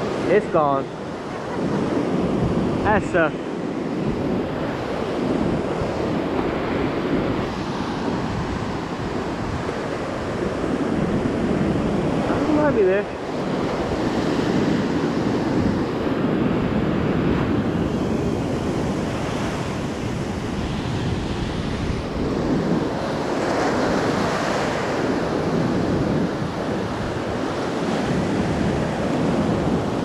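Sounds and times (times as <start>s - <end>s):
surf waves breaking on sand: 0.0s - 30.0s
wind buffeting the microphone: 0.0s - 30.0s.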